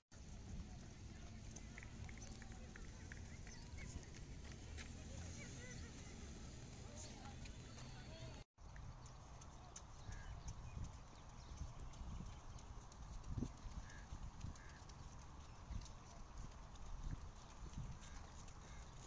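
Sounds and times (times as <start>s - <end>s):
footsteps on paved path: 0.2s - 19.0s.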